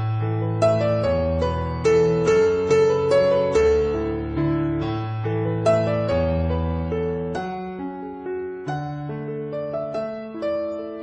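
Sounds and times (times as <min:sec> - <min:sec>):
soft electric piano chords: 0:00.0 - 0:11.0.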